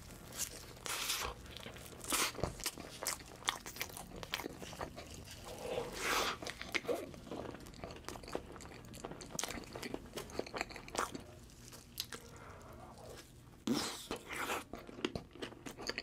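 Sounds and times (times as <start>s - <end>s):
cake crackling while eaten: 0.0s - 16.0s
wet chewing: 0.1s - 16.0s.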